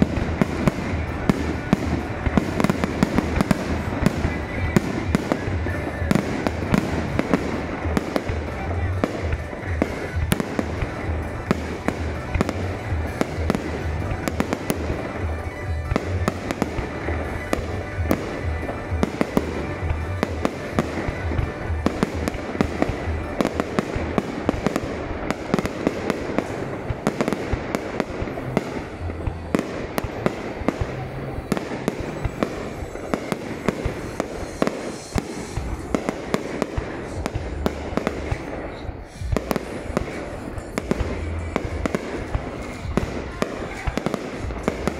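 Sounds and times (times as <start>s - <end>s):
continuous rumble: 0.0s - 44.9s
fireworks bursting and banging: 0.0s - 44.9s.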